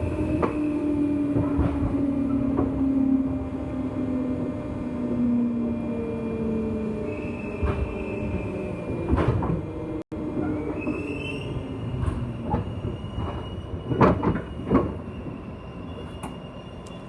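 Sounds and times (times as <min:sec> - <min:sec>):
train high whine: 0:00.0 - 0:17.0.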